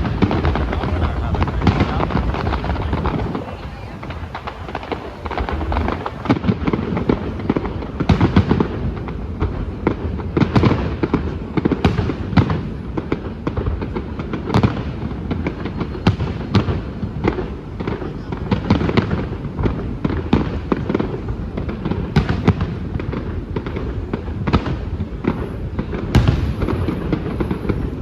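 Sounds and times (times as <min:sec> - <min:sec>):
fireworks bangs: 0:00.0 - 0:28.0
fireworks crackling and popping: 0:00.0 - 0:28.0.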